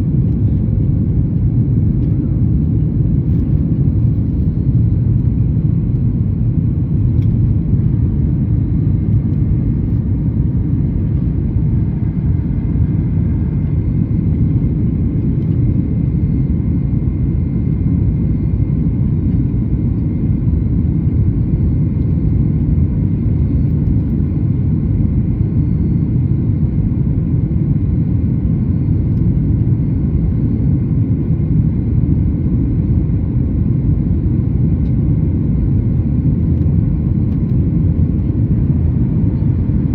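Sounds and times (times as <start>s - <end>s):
airplane engines in cabin: 0.0s - 39.9s.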